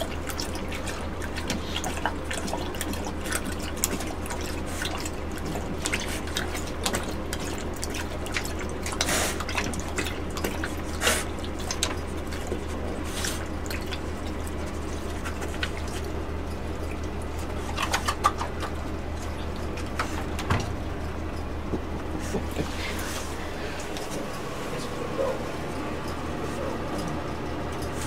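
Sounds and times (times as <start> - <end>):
dog lapping from bowl: 0.0 - 28.0.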